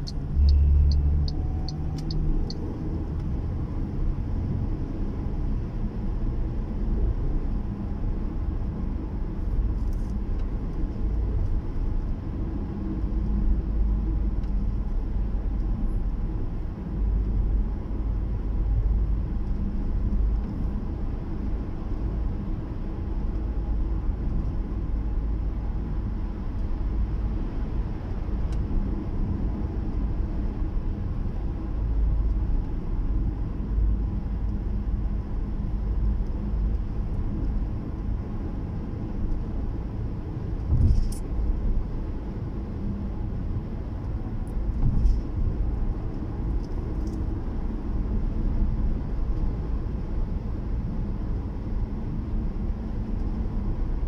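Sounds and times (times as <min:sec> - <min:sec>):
car engine rumble: 0:00.0 - 0:54.0.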